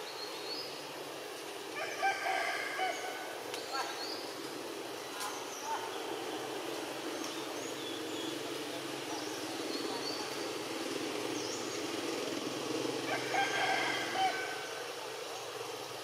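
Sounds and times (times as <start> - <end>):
low mechanical hum and rumble: 2.6 - 16.0.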